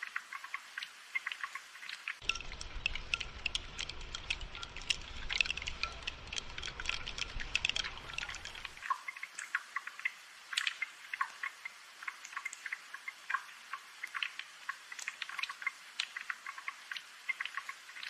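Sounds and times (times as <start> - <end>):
rain dripping: 0.0 - 18.0.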